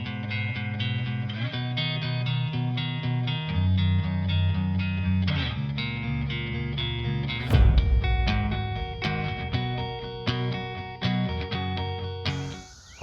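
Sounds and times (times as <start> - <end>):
guitar-led background music: 0.0 - 13.0.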